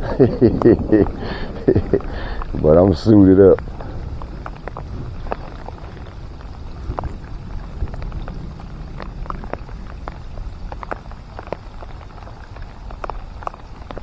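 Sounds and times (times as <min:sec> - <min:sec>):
low rumble: 0:00.0 - 0:14.0
rain falling: 0:00.0 - 0:14.0.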